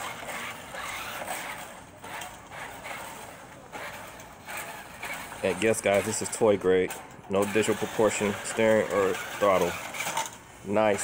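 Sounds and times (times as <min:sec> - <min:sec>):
toy car electric motor running: 0:00.0 - 0:06.6, 0:07.4 - 0:11.0.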